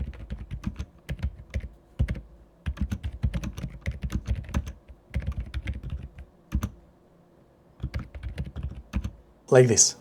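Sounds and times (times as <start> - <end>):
mechanical keyboard typing: 0.0 - 6.8, 7.8 - 9.2.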